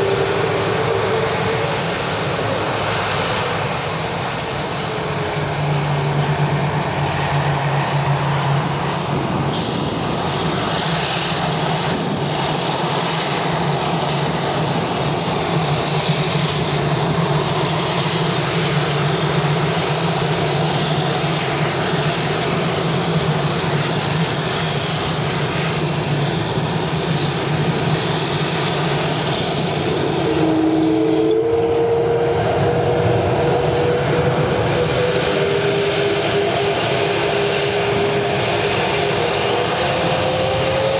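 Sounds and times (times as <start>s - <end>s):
jet engines rumbling: 0.0s - 40.9s
thin high engine whine: 0.0s - 40.9s.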